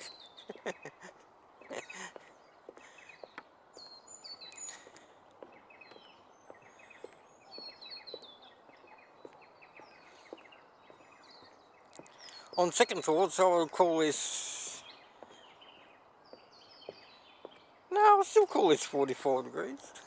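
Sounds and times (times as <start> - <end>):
faint outdoor background noise: 0.0 - 20.0
small birds chirping: 0.0 - 20.0.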